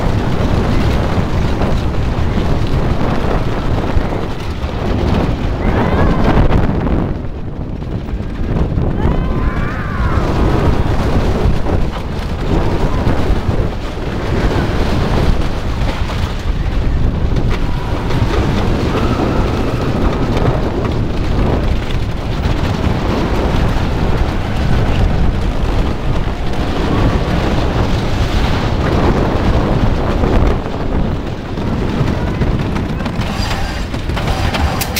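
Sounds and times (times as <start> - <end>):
roller coaster rumbling and clattering: 0.0 - 34.9.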